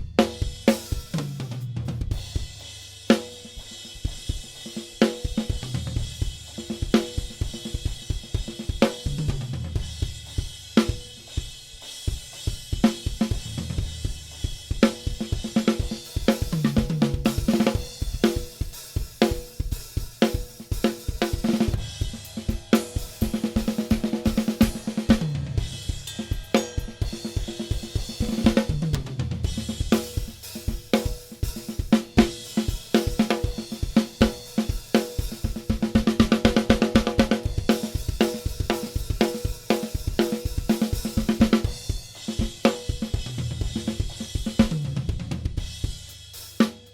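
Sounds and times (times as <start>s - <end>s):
drum kit groove: 0.0s - 46.9s.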